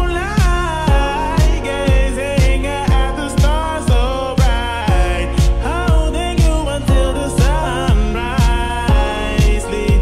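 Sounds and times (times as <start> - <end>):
deep booming kick drum: 0.0 - 10.0
pop music: 0.0 - 10.0.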